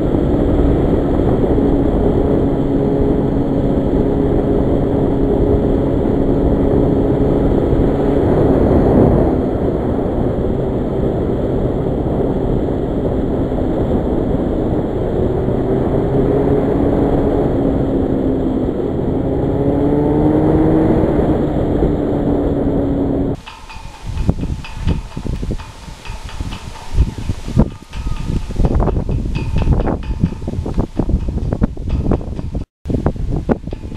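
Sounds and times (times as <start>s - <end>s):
wind rush on microphone: 0.0s - 33.9s.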